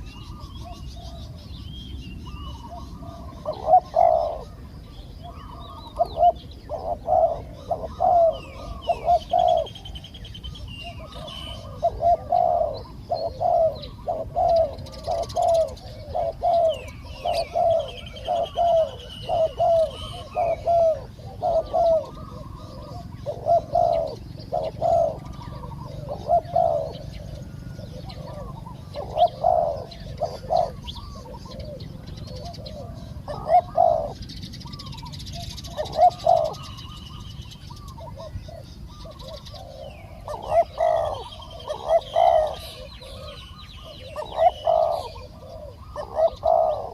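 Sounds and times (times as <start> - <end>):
doves cooing: 0.0 - 46.9
small birds chirping: 0.0 - 46.9.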